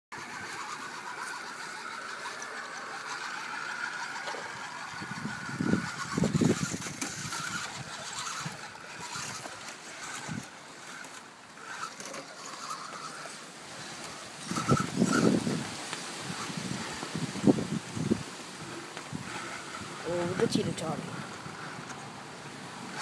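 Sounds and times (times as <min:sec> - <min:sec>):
electric motor and gears whining: 0:00.2 - 0:23.0.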